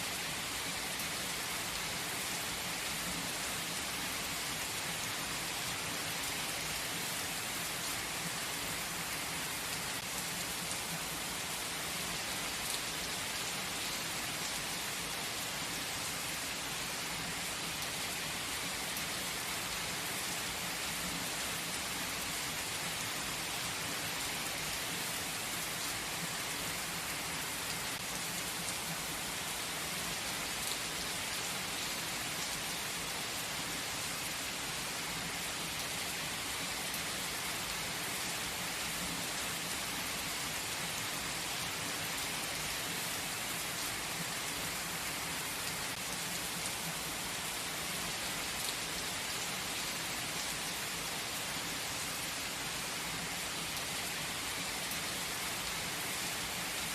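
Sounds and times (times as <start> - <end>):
gentle rain falling: 0.0 - 56.9.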